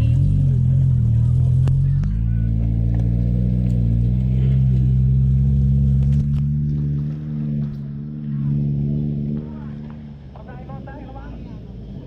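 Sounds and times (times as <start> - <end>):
vehicle engine running loud: 0.0 - 12.0.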